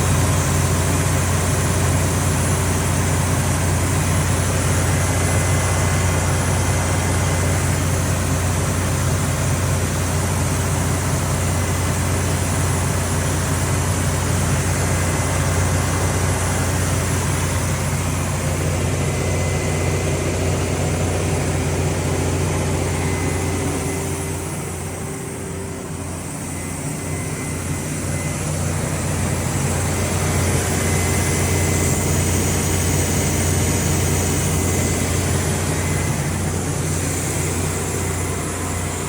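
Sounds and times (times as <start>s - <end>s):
diesel generator engine drone: 0.0s - 39.0s.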